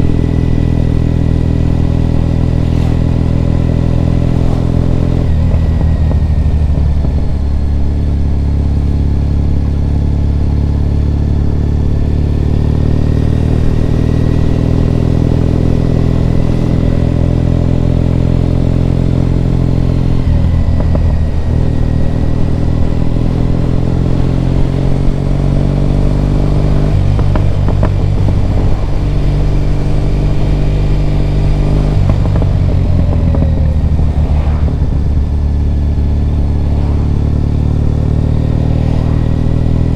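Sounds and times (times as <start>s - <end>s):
motorcycle engine with gear changes: 0.0s - 39.9s.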